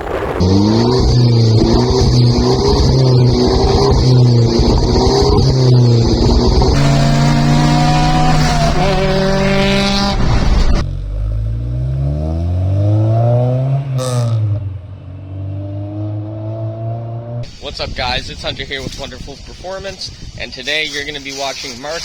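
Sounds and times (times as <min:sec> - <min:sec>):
car engine revving: 0:00.0 - 0:18.7.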